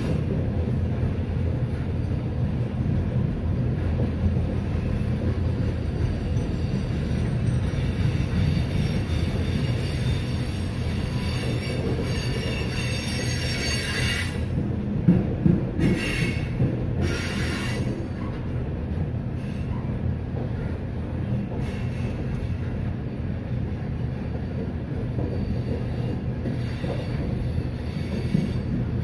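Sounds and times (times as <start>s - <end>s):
freight train wheels rumbling on rails: 0.0s - 29.0s.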